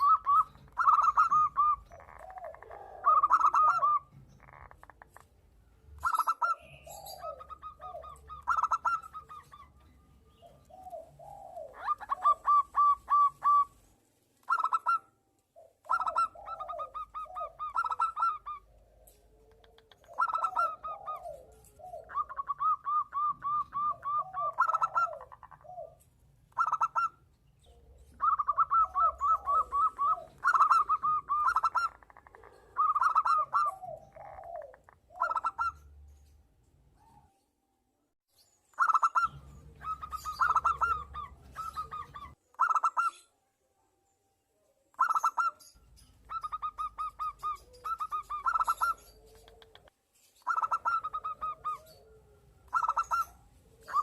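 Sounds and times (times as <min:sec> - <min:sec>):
doves cooing: 0:00.0 - 0:05.4, 0:06.0 - 0:36.0, 0:38.8 - 0:43.2, 0:44.9 - 0:54.0.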